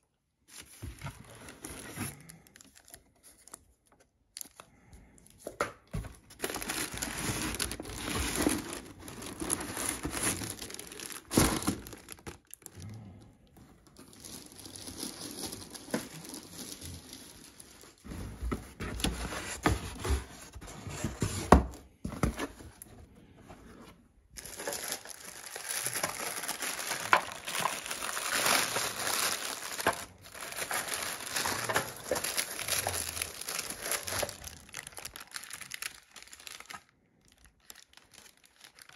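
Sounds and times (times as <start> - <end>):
packaging crumpling and tearing: 0.5 - 5.2, 6.2 - 13.0, 13.8 - 20.2, 24.4 - 38.9.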